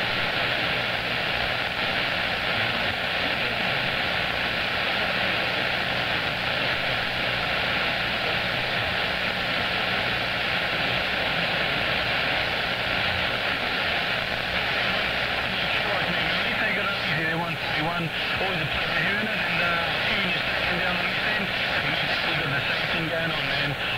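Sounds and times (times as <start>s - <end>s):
radio static hiss: 0.0s - 23.9s.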